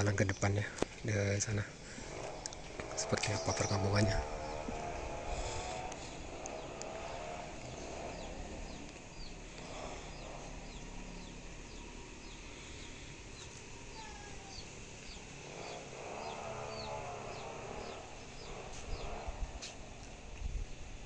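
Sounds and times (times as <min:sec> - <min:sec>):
chicks peeping: 0:00.0 - 0:20.2.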